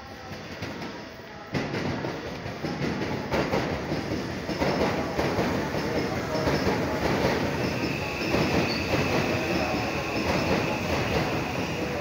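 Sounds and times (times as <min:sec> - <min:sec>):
train wheels rolling: 0:00.2 - 0:12.0.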